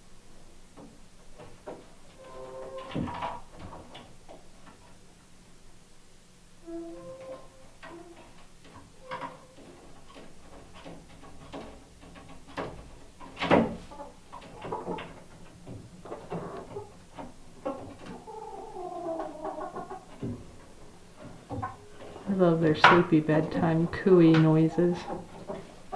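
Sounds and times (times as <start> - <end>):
chickens cooing and clucking: 2.0 - 4.1, 6.6 - 25.9.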